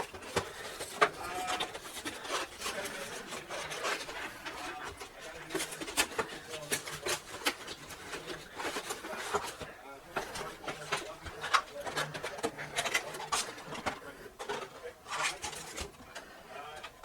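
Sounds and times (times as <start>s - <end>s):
cardboard and plastic scraping: 0.0s - 17.0s.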